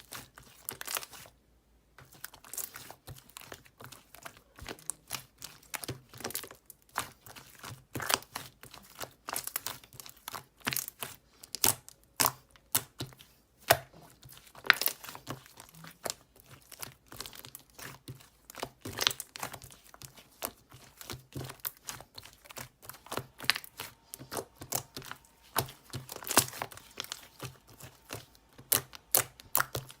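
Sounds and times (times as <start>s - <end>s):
crisp clicks and crackles: 2.0s - 30.0s.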